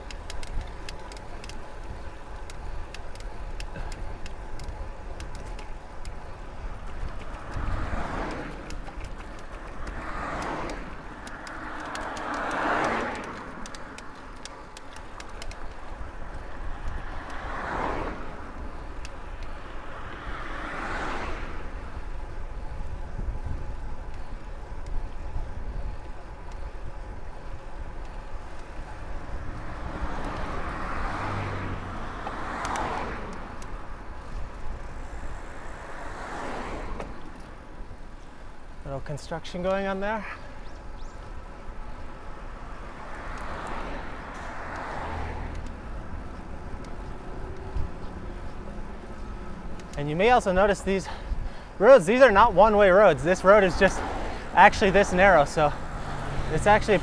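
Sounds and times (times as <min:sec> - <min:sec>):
cars passing: 0:00.0 - 0:57.0
low road rumble: 0:00.0 - 0:57.0.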